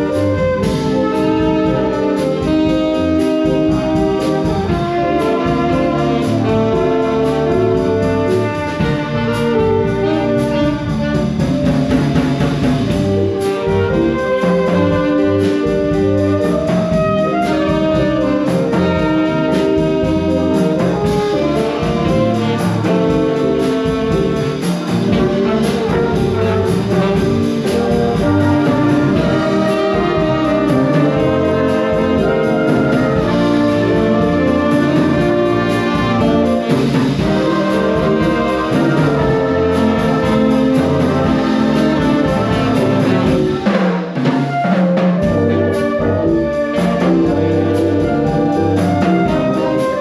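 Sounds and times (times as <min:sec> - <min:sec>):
brass instruments: 0:00.0 - 0:50.0
instrumental ensemble playing: 0:00.0 - 0:50.0.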